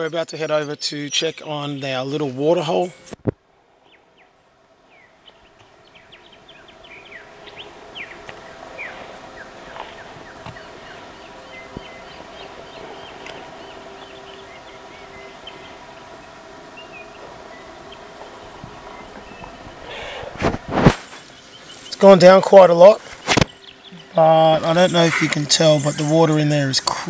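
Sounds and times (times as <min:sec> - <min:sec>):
birds chirping and whistling: 0:00.0 - 0:03.2, 0:04.9 - 0:27.0
steady low hum: 0:00.0 - 0:27.0.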